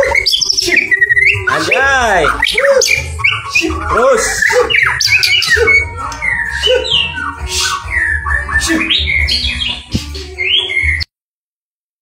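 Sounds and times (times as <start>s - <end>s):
bird singing whistles and chirps: 0.0s - 11.1s.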